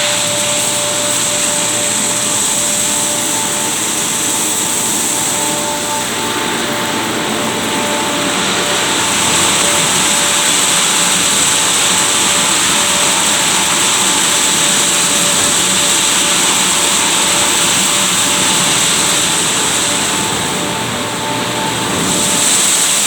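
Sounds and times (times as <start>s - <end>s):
car wash rushing hiss: 0.0s - 23.0s
faint steady tones: 0.0s - 23.0s.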